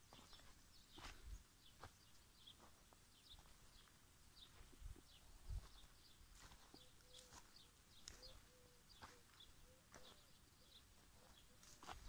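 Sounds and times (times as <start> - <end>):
dry grass crackling underfoot: 0.0 - 12.0
bird chirps: 0.1 - 12.0.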